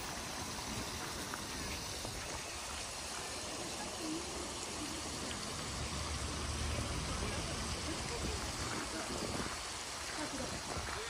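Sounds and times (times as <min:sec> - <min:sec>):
fountain water running: 0:00.0 - 0:11.0.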